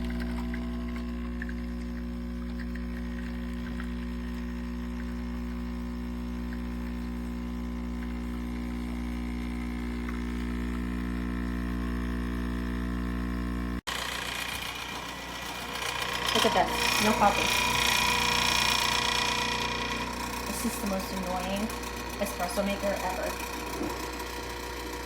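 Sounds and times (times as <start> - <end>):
espresso machine pump buzzing: 0.0 - 25.0.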